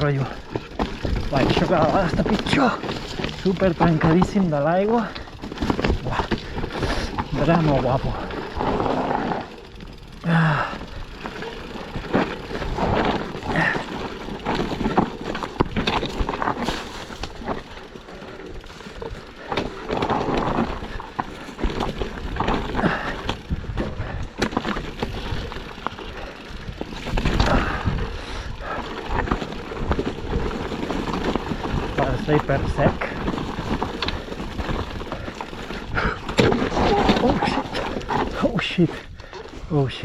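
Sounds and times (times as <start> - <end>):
bike knocking and rattling: 0.0 - 40.0
bike tyres skidding over stones: 0.0 - 40.0.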